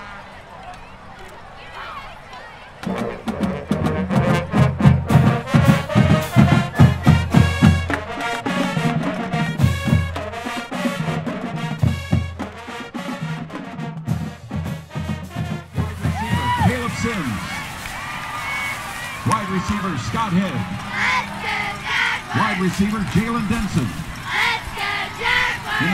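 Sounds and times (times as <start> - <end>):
brass instruments playing held notes: 2.8 - 25.9
heavy drum beat: 2.9 - 17.6, 19.2 - 25.9.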